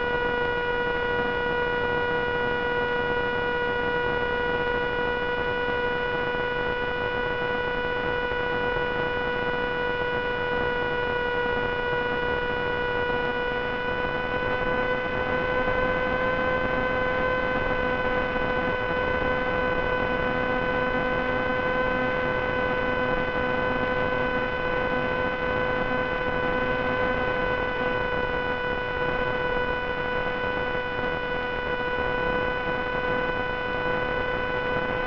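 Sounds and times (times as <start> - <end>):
steady electrical buzz: 0.0 - 35.0.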